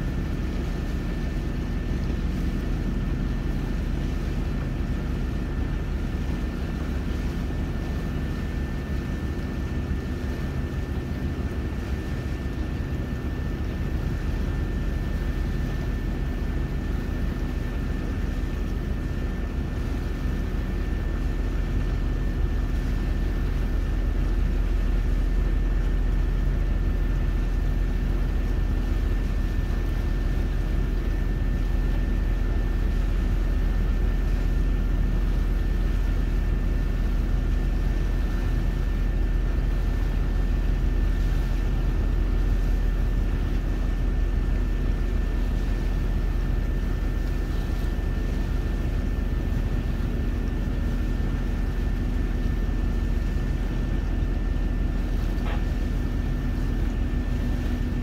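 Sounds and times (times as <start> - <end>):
boat engine droning: 0.0 - 58.0
thin steady whine: 0.0 - 58.0.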